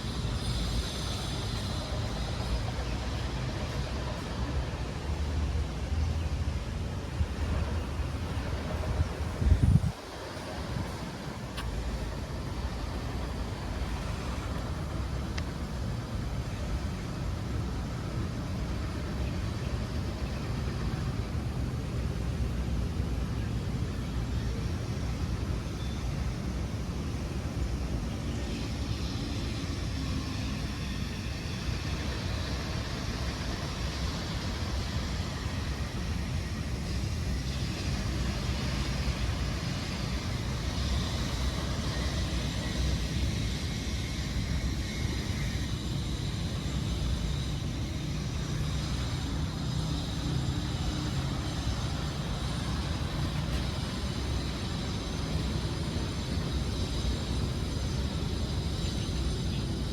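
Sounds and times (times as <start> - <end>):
distant city traffic rumble: 0.0 - 59.9.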